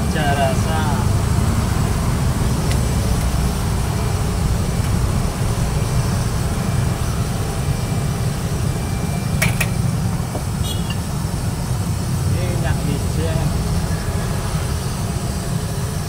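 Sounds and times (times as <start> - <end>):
gas burner rumbling: 0.0 - 16.0.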